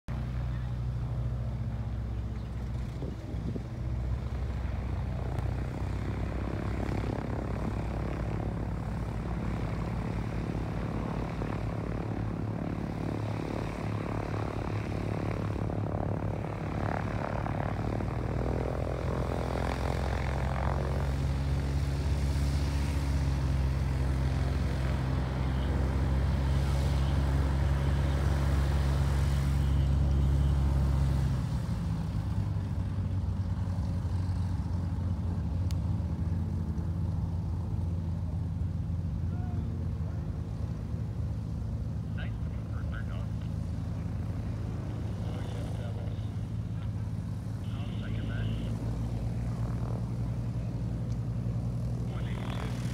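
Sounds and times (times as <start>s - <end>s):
propeller airplane engines droning: 0.1s - 52.9s.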